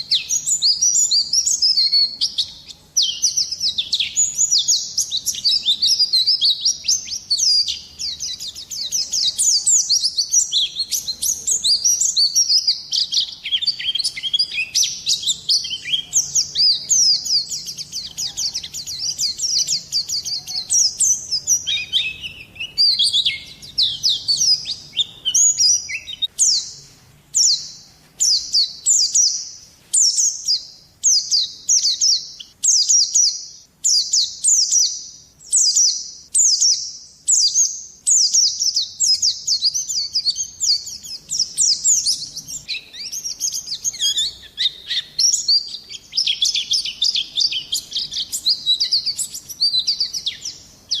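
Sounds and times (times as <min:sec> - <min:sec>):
songbird chirps and trills: 0:00.0 - 0:51.0.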